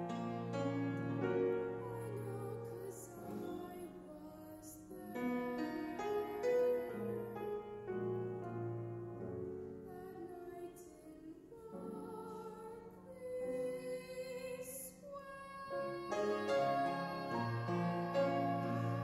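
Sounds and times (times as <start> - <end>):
grand piano: 0.0 - 19.0
woman singing: 1.4 - 7.8, 9.8 - 19.0.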